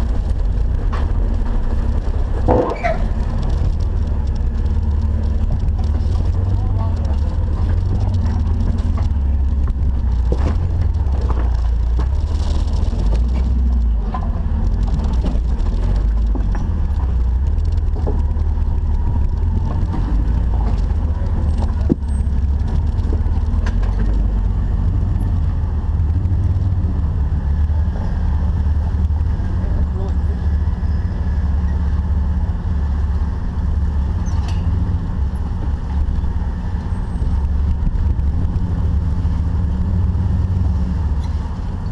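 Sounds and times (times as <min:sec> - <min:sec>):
engine rumbling: 0:00.0 - 0:41.9.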